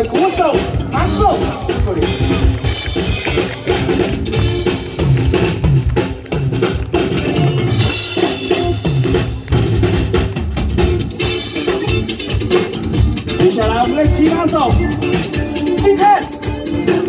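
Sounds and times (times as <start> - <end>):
drum kit solo: 0.0 - 17.0.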